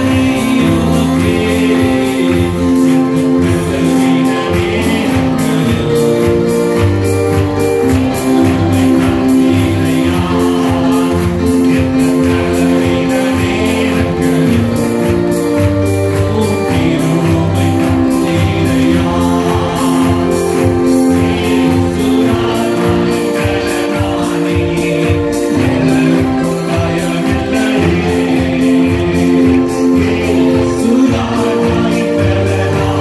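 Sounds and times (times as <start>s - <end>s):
electronic keyboard chords: 0.0s - 33.0s
man singing into a microphone: 0.0s - 33.0s
percussion beat: 0.0s - 33.0s.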